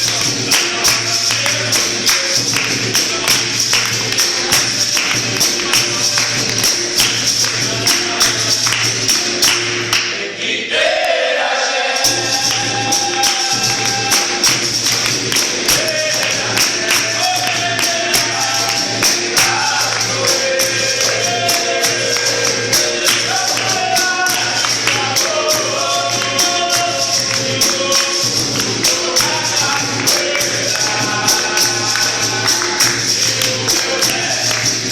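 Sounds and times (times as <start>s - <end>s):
tambourine rhythmic beat: 0.0s - 10.2s, 11.9s - 34.9s
group singing: 0.0s - 34.9s.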